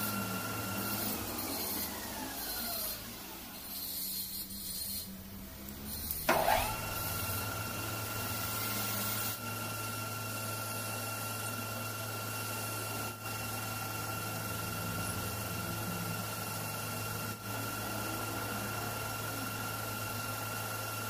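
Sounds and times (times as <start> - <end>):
high steady whine of spinning chuck: 0.0 - 21.0
metal lathe motor hum: 0.0 - 21.0.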